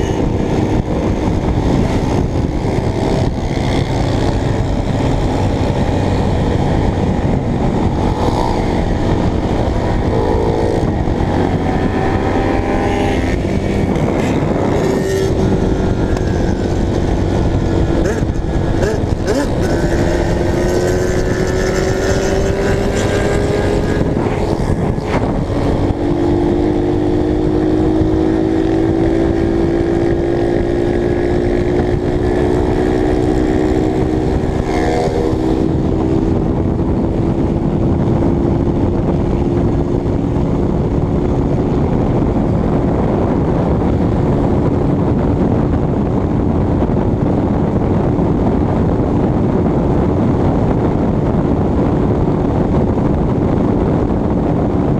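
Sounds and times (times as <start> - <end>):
motorcycle engine cruising: 0.0 - 54.9
wind rush on microphone: 0.0 - 54.9.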